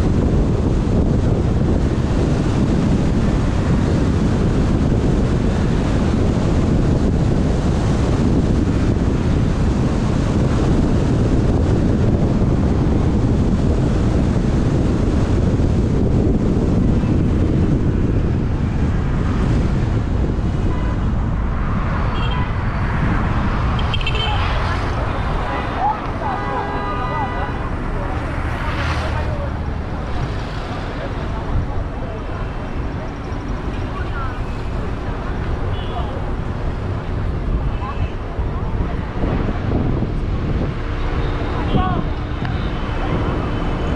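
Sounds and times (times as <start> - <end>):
road noise: 0.0 - 43.9
wind rumble on microphone: 0.0 - 43.9.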